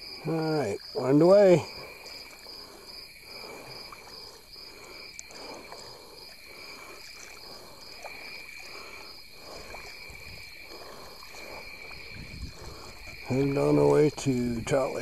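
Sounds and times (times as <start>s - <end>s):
fast pulsing insect chirp: 0.0s - 15.0s
insects trilling: 0.0s - 15.0s
kayak paddle swishing through water: 0.0s - 15.0s.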